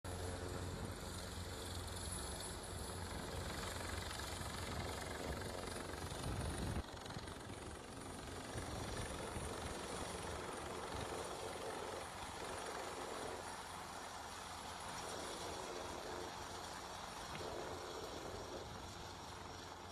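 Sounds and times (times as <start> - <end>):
helicopter hovering: 0.0 - 19.9.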